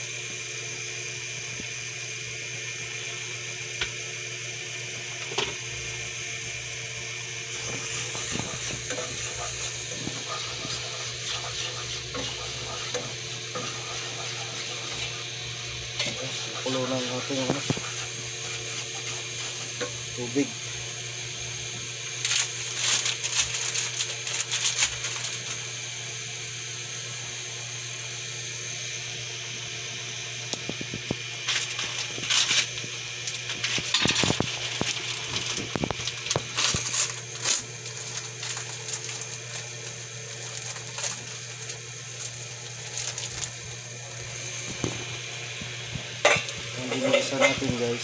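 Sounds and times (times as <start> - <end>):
garlic and onion sizzling in butter: 0.0 - 48.0.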